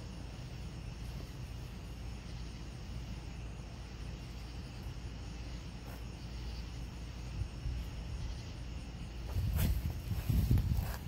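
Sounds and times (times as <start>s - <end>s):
insect chirps: 0.0s - 11.0s
steady low rumble: 0.0s - 11.0s.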